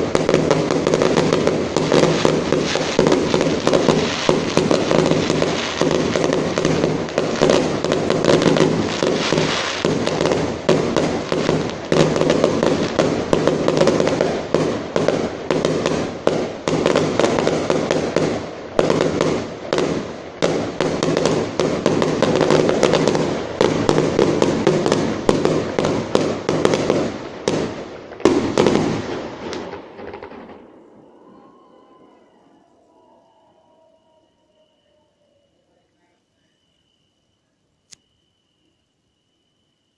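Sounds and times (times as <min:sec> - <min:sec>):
fireworks bangs: 0:00.0 - 0:34.0.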